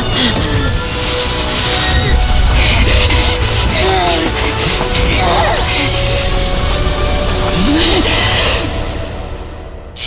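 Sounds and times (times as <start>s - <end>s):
soundtrack music: 0.0s - 10.0s
low rumble: 1.5s - 10.0s.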